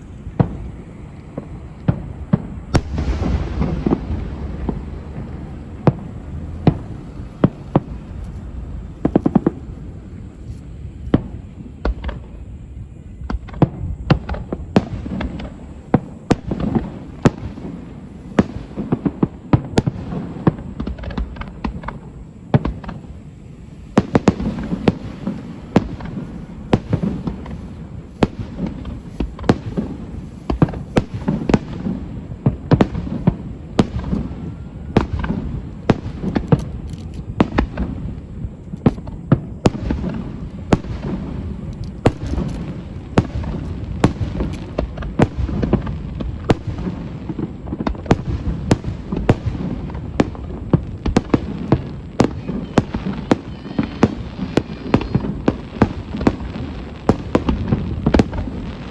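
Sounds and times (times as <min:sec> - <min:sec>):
continuous low rumble: 0:00.0 - 0:58.9
fireworks bangs: 0:00.0 - 0:58.9.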